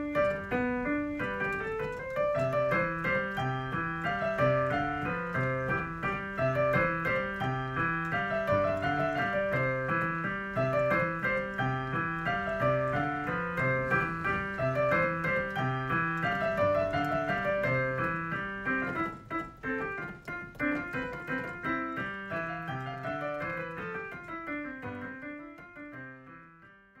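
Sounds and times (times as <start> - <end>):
background piano music: 0.0 - 27.0.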